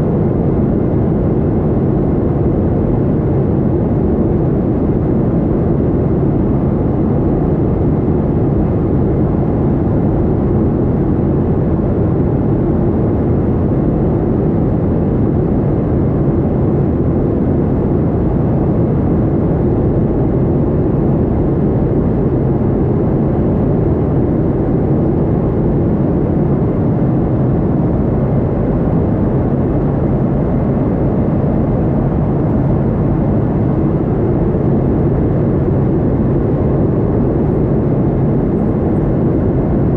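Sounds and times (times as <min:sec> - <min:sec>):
jet airliner engine rumble: 0:00.0 - 0:39.9.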